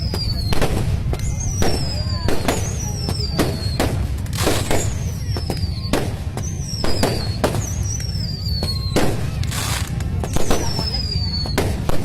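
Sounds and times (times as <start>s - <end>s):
falling firework whistles: 0.0s - 12.0s
fireworks bangs: 0.0s - 12.0s.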